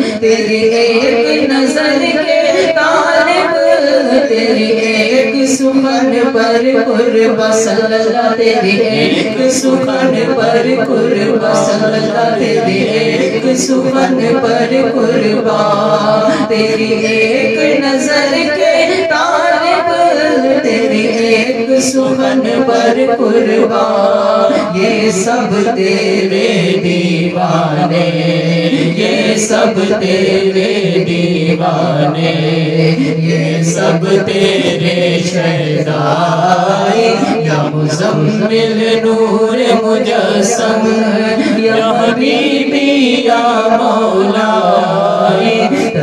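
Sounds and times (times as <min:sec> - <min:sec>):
men singing unaccompanied: 0:00.0 - 0:46.0.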